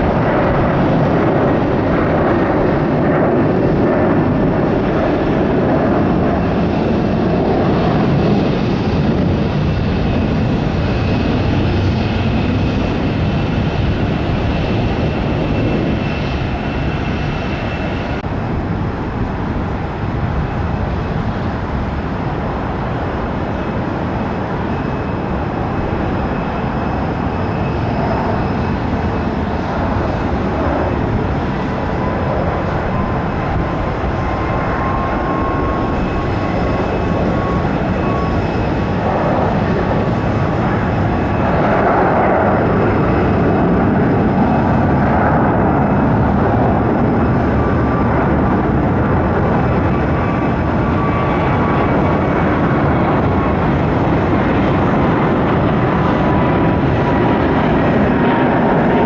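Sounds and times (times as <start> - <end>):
jet airliner landing: 0.0 - 59.0.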